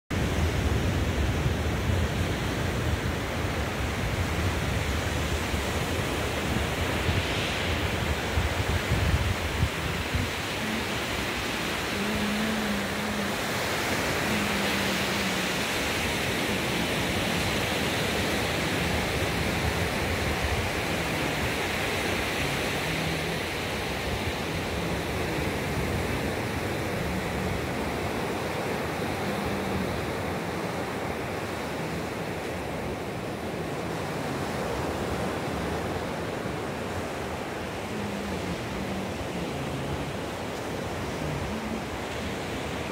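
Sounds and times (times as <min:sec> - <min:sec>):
surf washing onto beach: 0:00.1 - 0:42.9
wind buffeting microphone: 0:00.1 - 0:42.9.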